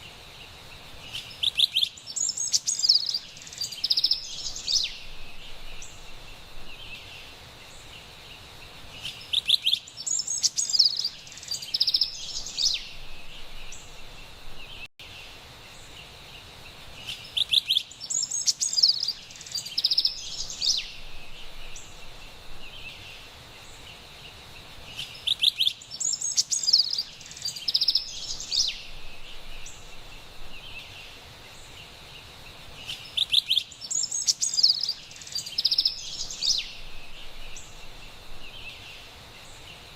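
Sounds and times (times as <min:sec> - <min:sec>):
faint outdoor hiss: 0:00.0 - 0:39.9
wren singing: 0:01.0 - 0:14.9, 0:17.0 - 0:24.0, 0:24.8 - 0:39.8.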